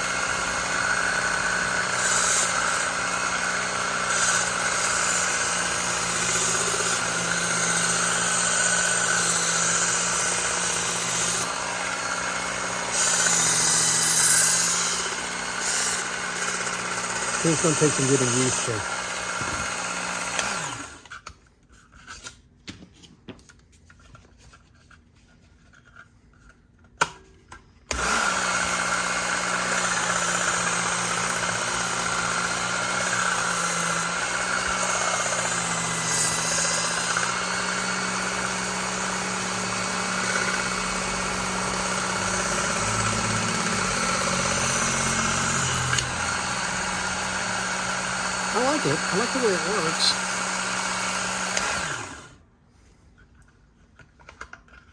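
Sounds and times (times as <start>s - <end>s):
belt sharpener motor running: 0.0s - 21.1s, 27.9s - 52.4s.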